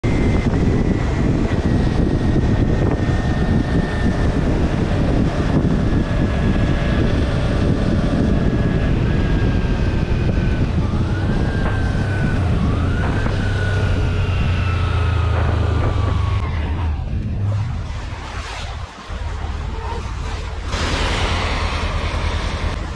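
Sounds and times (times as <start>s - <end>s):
motorcycle engine whine: 0.0s - 22.9s
tyres on wet road: 0.0s - 22.9s
wind rush: 0.0s - 22.9s.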